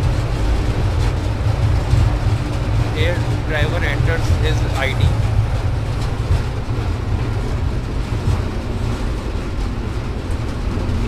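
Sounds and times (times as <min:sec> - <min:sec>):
locomotive cab low rumble: 0:00.0 - 0:11.0
wheels on rail: 0:00.0 - 0:11.0.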